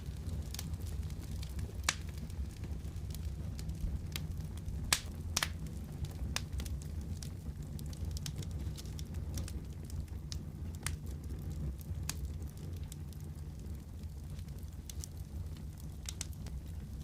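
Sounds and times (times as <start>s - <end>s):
fire crackles and pops: 0.0s - 17.0s
fire rumbling: 0.0s - 17.0s.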